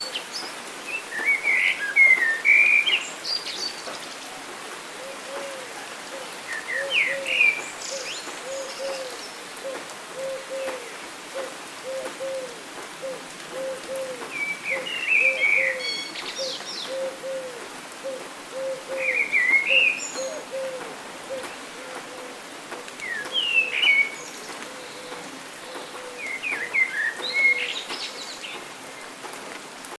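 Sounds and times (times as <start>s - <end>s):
constant hiss: 0.0s - 30.0s.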